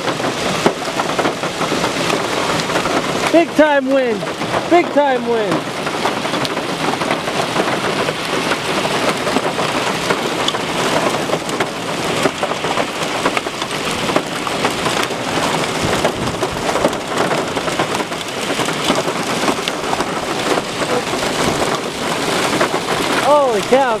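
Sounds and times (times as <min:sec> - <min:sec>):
hail and heavy rain pelting: 0:00.0 - 0:24.0.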